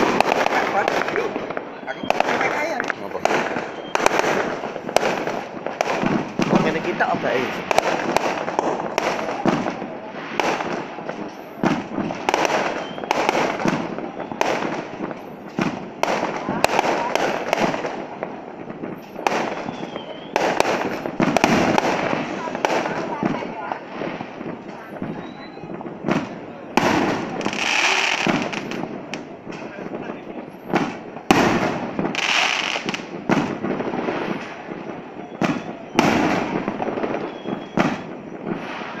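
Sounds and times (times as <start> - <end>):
fireworks bangs: 0.0 - 39.0
fireworks crackling: 0.0 - 39.0.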